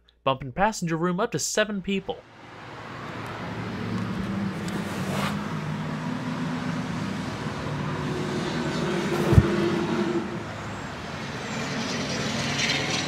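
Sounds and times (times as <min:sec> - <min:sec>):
road traffic rumble: 0:02.1 - 0:13.0.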